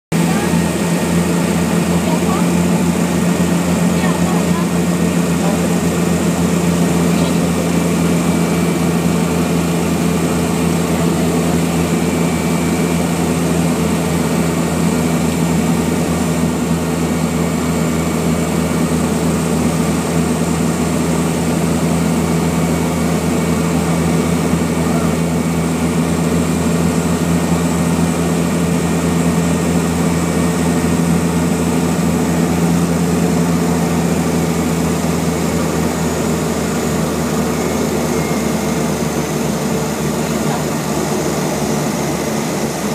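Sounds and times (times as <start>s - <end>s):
propeller aircraft engine drone: 0.1s - 42.9s.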